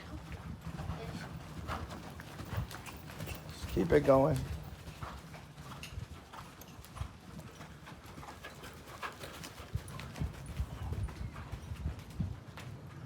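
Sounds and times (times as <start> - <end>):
horse hoofbeats: 0.1 - 13.0.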